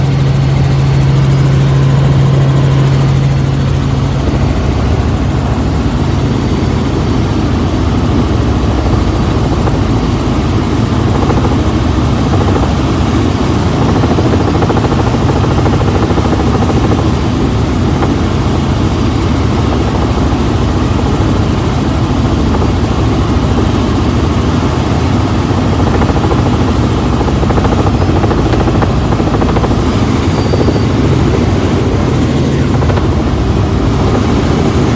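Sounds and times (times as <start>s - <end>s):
helicopter rotor and engine drone: 0.0s - 34.9s.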